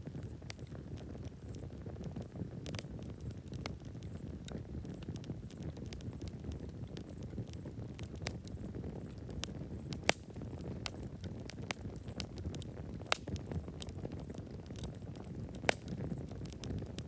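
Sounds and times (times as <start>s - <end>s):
campfire crackling: 0.0s - 17.0s
sharp fire pops: 0.1s - 17.0s.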